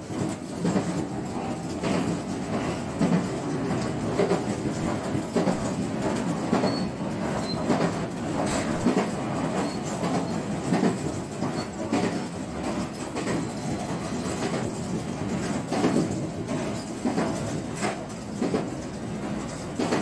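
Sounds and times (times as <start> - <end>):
train rumble inside car: 0.0 - 20.0
wheels clacking over rail joints: 0.0 - 20.0.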